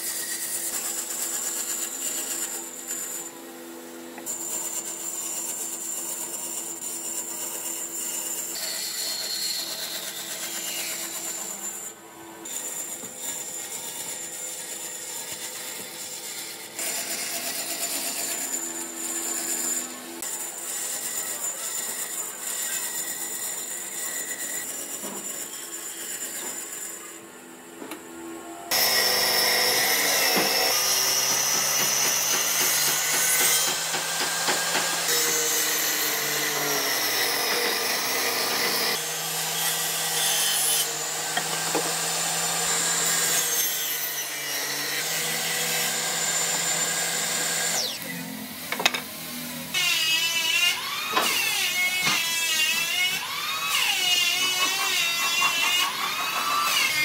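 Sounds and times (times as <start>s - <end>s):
bandsaw cutting wood: 0.0s - 3.4s, 4.0s - 27.1s, 28.7s - 57.0s.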